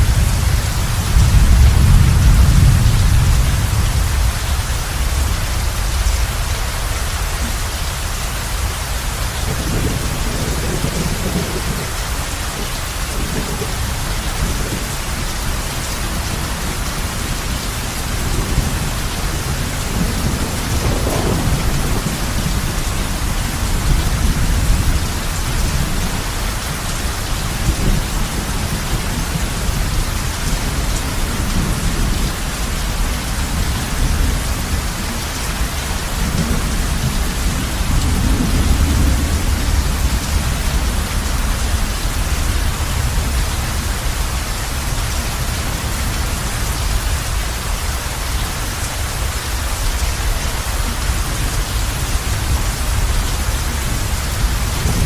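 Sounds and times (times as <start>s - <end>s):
heavy rain on a roof: 0.0s - 55.0s
thunder rumbling: 0.0s - 55.0s.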